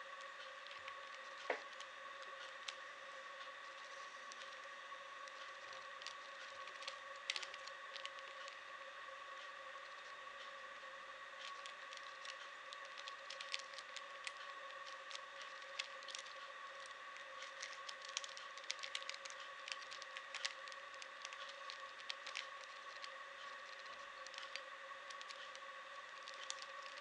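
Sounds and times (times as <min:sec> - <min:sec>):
faint high-pitched hum: 0:00.0 - 0:27.0.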